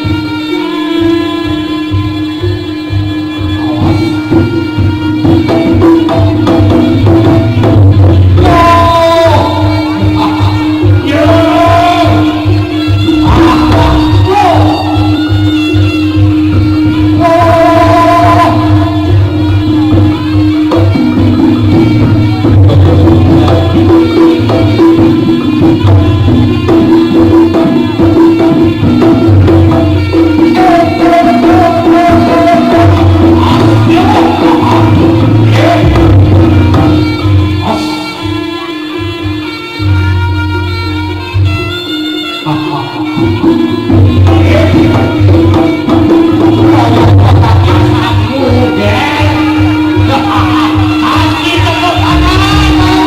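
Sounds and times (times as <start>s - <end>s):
drum and percussion strokes: 0.0s - 53.0s
reedy held melody: 0.0s - 53.0s.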